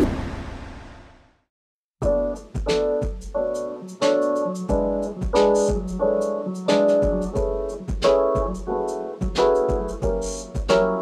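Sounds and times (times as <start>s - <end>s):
piano chords: 2.0s - 11.0s.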